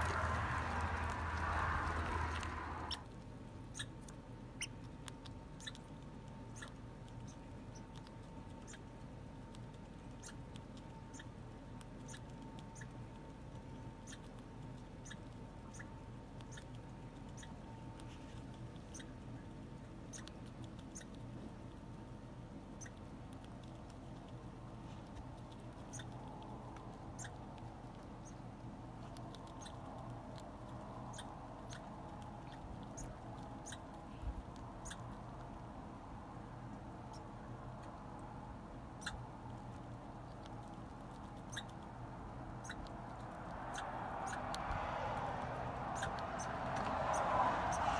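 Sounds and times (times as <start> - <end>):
faint steady hum: 0.0 - 47.9
squirrel chewing: 0.0 - 47.9.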